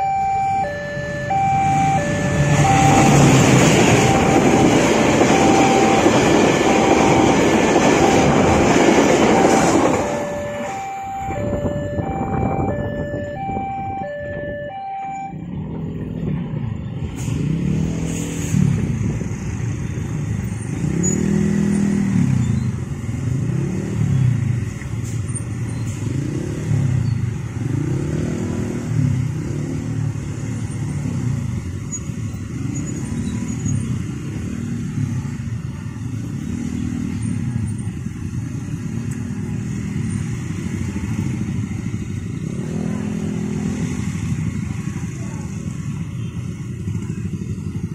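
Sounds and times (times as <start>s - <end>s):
motorcycle engines idling and revving: 0.0s - 47.9s.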